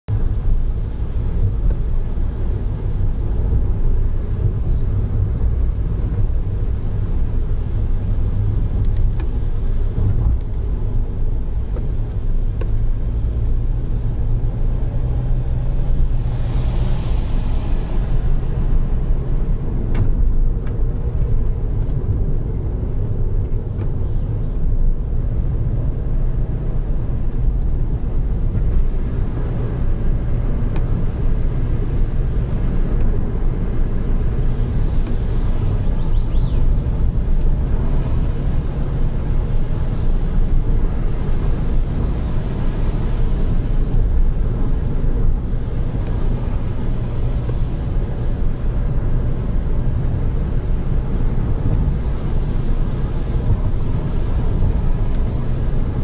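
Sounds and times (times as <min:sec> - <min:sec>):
car cabin engine and tyre rumble: 0:00.1 - 0:56.0.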